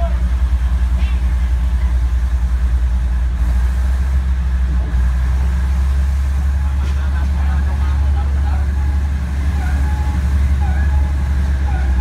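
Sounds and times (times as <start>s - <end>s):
diesel engine throbbing: 0.0s - 12.0s.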